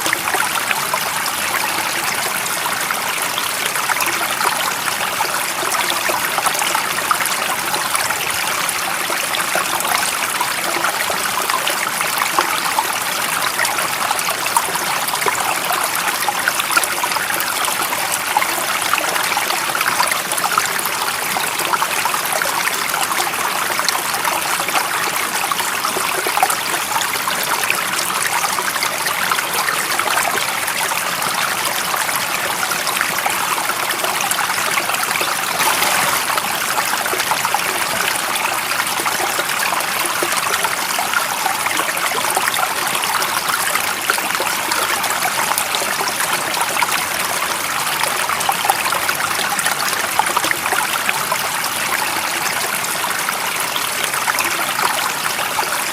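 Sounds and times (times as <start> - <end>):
stream water over rocks: 0.0 - 55.9.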